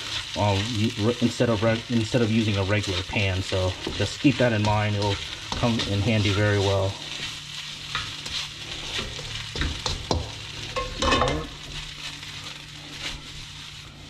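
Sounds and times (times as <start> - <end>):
rice sizzling in a pan: 0.0 - 14.0
spatula scraping a pan: 1.6 - 14.0.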